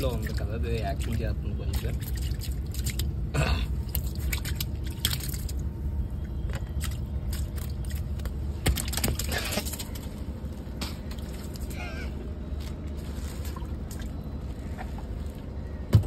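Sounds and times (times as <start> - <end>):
steady low rumble: 0.0 - 16.0
water sloshing and splashing: 0.0 - 16.0.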